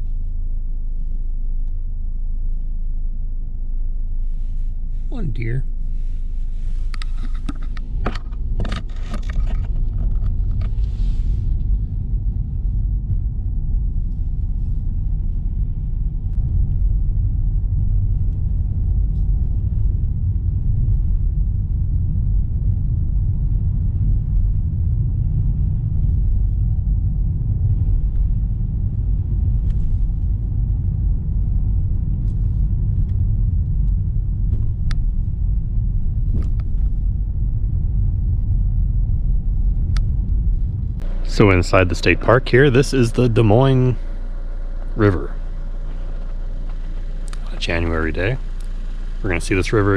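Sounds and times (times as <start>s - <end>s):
car driving rumble: 0.0s - 49.9s.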